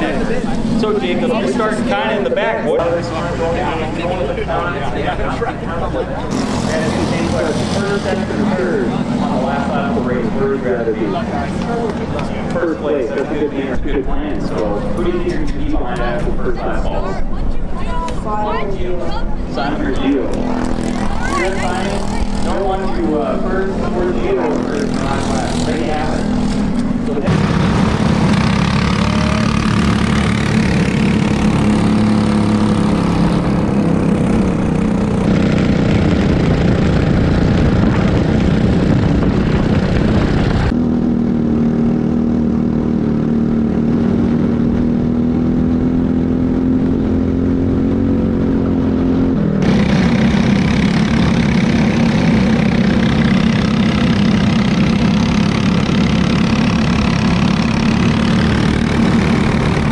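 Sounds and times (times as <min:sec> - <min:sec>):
hum rising and falling in pitch: 0:00.0 - 0:59.9
kart engines running: 0:00.0 - 0:59.9.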